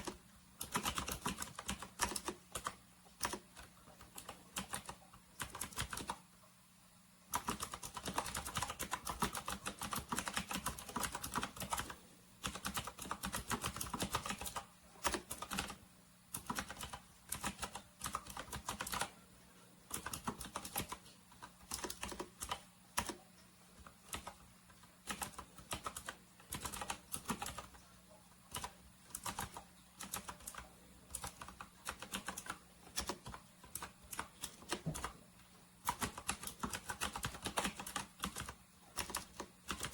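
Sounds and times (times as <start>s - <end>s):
mechanical keyboard typing: 0.0s - 6.2s, 7.3s - 19.2s, 19.9s - 27.8s, 28.5s - 35.2s, 35.8s - 39.9s.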